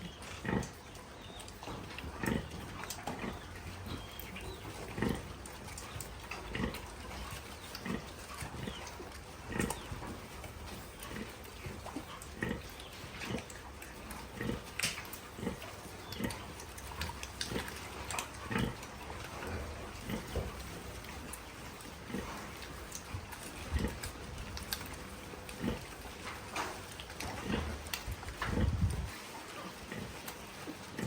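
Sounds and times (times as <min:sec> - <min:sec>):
steady low hum: 0:00.0 - 0:30.2
pigs grunting: 0:00.0 - 0:31.0.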